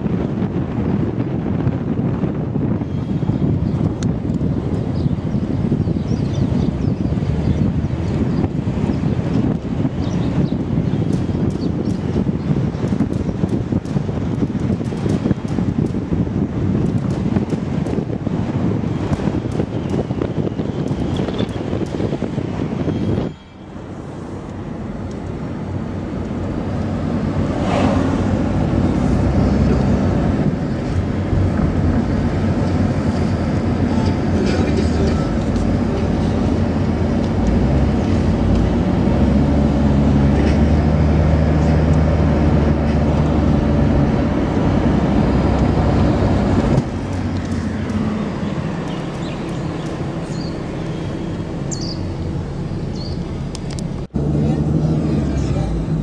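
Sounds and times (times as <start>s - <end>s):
car engine drone: 0.0s - 56.0s
tyre and wind noise: 0.0s - 56.0s.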